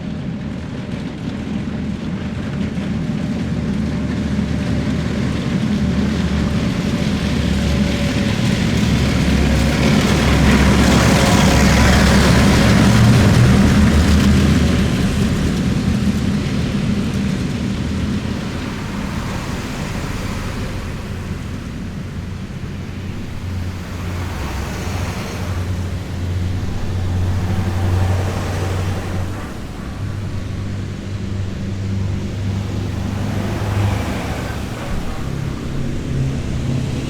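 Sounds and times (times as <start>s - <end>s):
heavy vehicles driving past: 0.1s - 37.0s.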